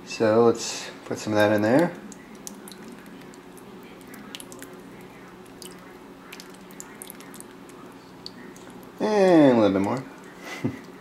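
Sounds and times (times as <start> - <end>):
steady low hum: 0.0 - 11.0
hot sauce dripping: 1.3 - 11.0.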